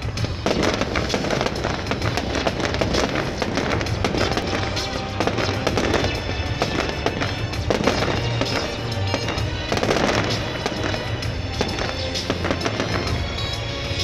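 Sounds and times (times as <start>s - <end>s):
fireworks crackling and banging: 0.0s - 14.0s
music playing: 0.0s - 14.0s.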